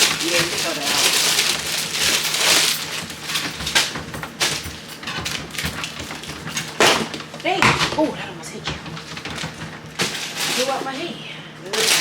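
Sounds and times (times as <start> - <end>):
crunching packaging and ice: 0.0 - 8.1, 8.9 - 12.0.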